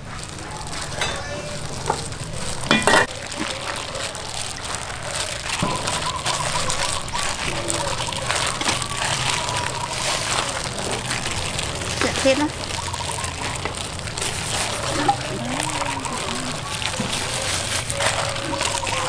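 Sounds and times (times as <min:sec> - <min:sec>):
gloved hand mixing wet flour: 0:00.0 - 0:19.0.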